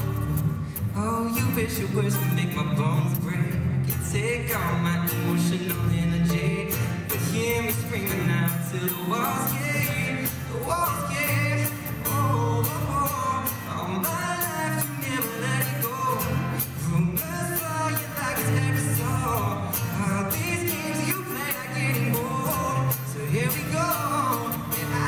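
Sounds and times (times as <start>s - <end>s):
man singing pop song: 0.0s - 25.0s
strummed acoustic guitar: 0.0s - 25.0s.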